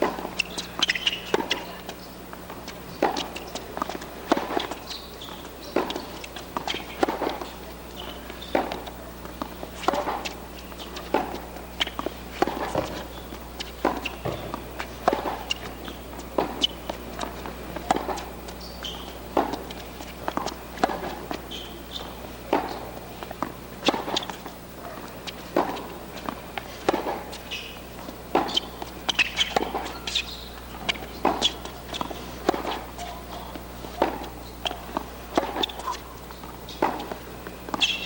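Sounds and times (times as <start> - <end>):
tennis ball bouncing: 0.0 - 38.0
tennis racket hitting ball: 0.0 - 38.0.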